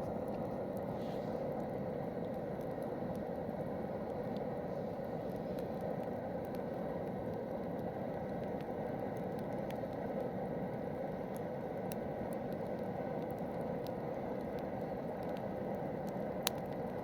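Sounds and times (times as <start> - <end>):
campfire hissing: 0.0 - 17.0
wood crackling and popping: 0.0 - 17.0.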